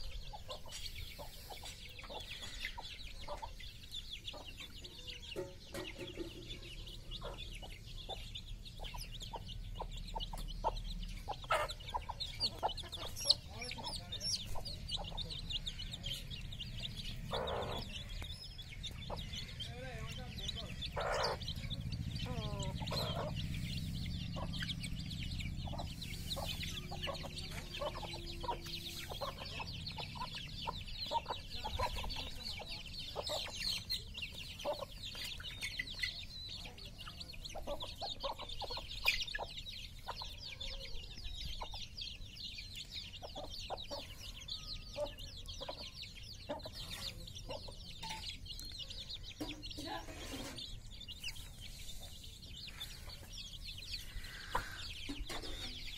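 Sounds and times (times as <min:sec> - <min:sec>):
clucking: 0:00.0 - 0:40.6, 0:43.2 - 0:51.5, 0:54.2 - 0:55.9
chicks peeping: 0:00.0 - 0:55.9.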